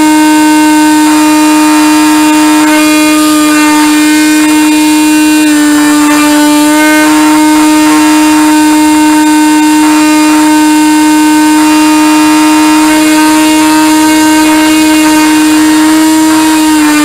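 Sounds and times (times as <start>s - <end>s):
model airplane motor drone: 0.0s - 17.0s.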